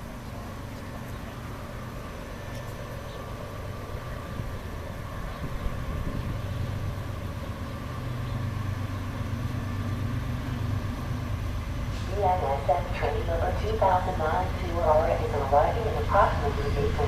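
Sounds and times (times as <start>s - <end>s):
diesel locomotive engines droning: 0.0s - 17.0s.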